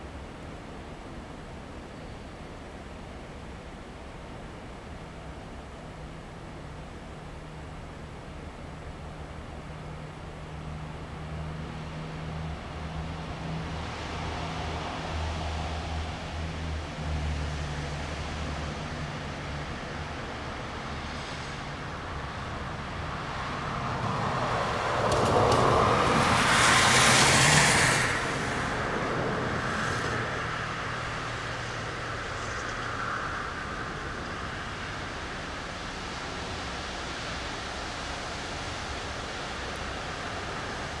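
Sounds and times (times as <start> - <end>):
distant traffic: 0.0 - 41.0.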